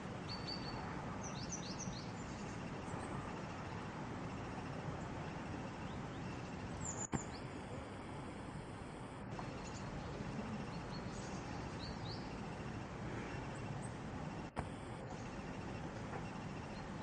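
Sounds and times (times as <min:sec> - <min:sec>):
outdoor background noise: 0:00.0 - 0:17.0
faint bird chirps: 0:00.2 - 0:08.0, 0:09.4 - 0:17.0.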